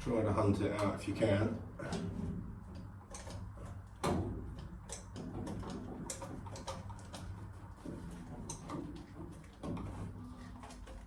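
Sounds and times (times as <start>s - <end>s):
steady low hum: 0.0s - 11.0s
clicks and knocks of hand work: 1.8s - 11.0s.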